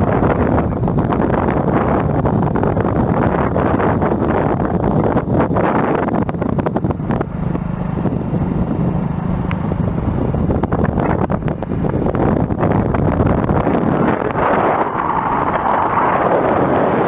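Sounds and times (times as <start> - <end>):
motorcycle engine hum: 0.0 - 17.0
wind buffeting microphone: 0.0 - 17.0.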